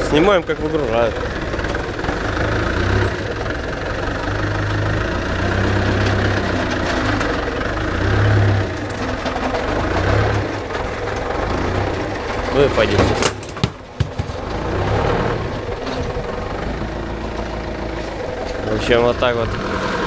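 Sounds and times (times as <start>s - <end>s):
forklift engine revving: 0.0s - 20.0s.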